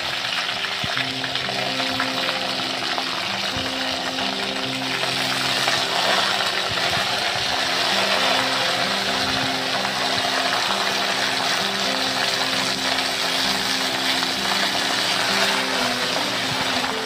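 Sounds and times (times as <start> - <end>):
onions sizzling in hot oil: 0.0 - 17.0
soft background music: 0.0 - 17.0.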